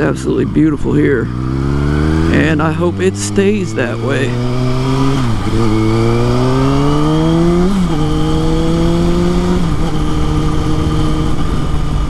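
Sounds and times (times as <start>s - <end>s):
motorcycle accelerating with upshifts: 0.0s - 12.0s.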